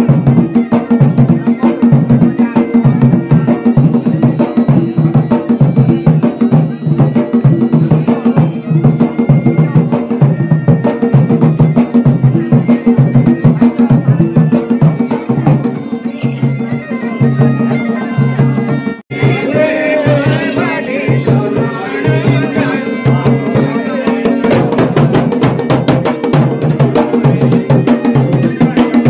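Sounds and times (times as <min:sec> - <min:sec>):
droning wind instrument: 0:00.0 - 0:29.0
drums beating a steady rhythm: 0:00.0 - 0:29.0.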